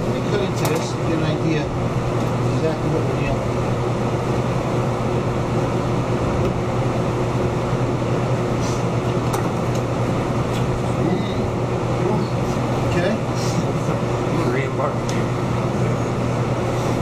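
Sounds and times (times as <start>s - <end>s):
low machinery hum: 0.0s - 17.0s.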